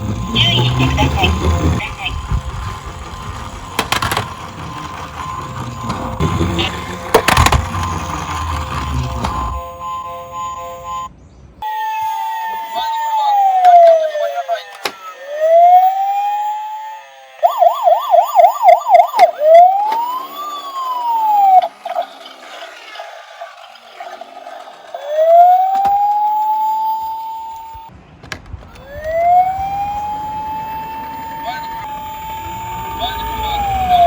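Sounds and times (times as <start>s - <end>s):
police car siren wailing: 0.0s - 27.9s, 28.7s - 34.0s.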